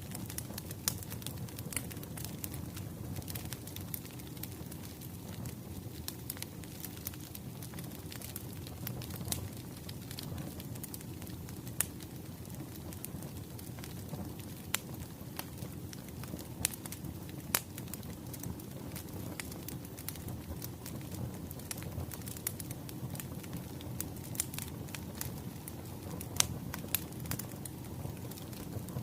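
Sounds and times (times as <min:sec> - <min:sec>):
wood fire crackling: 0:00.0 - 0:29.0
sharp pops of burning logs: 0:00.1 - 0:29.0.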